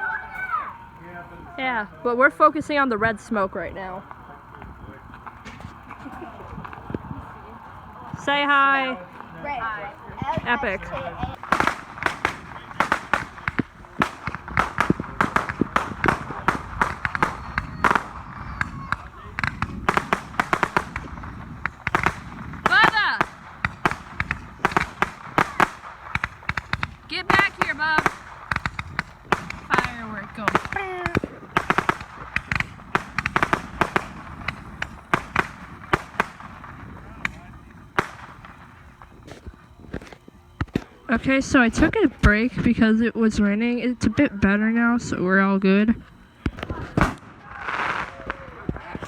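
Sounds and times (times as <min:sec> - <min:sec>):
firecrackers popping: 0:00.0 - 0:49.0.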